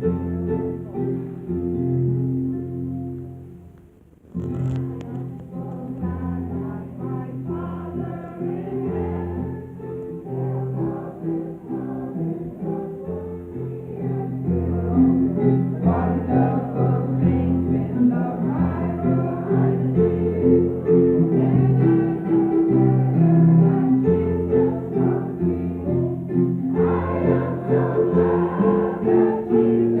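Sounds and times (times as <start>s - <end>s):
instrumental accompaniment: 0.0s - 30.0s
group singing a hymn: 4.7s - 30.0s.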